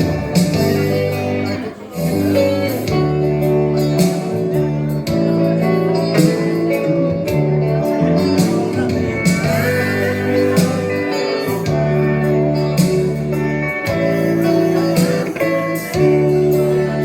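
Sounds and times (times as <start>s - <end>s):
guitar-led band music: 0.0s - 17.0s
held bass notes: 0.0s - 17.0s.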